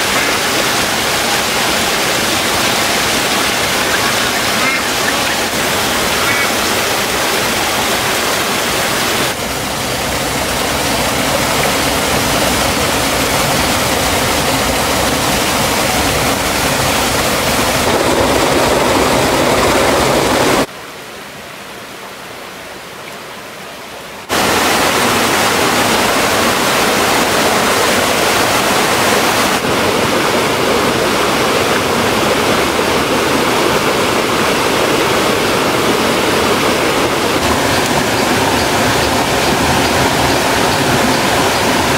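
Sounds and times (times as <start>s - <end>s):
waterfall and stream rushing: 0.0s - 41.9s.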